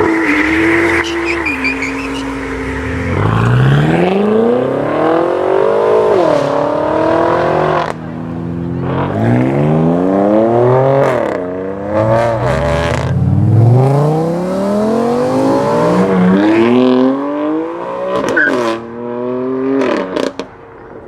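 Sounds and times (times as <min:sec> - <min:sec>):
car engine accelerating: 0:00.0 - 0:20.4.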